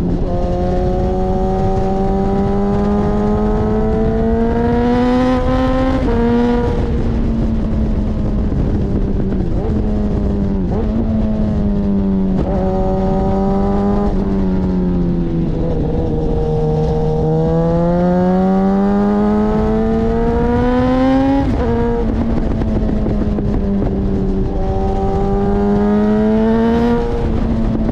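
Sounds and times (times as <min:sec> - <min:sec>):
motorcycle engine shifting gears: 0:00.0 - 0:27.9.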